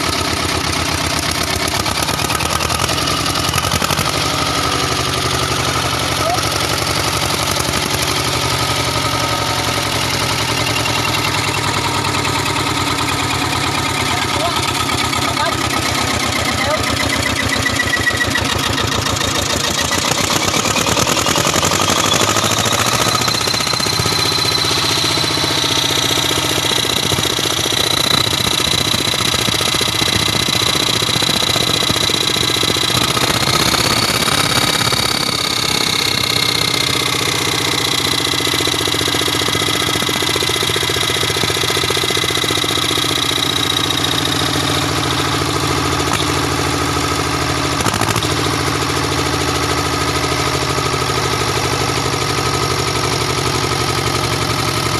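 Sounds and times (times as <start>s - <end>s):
stationary engine running: 0.0s - 54.9s.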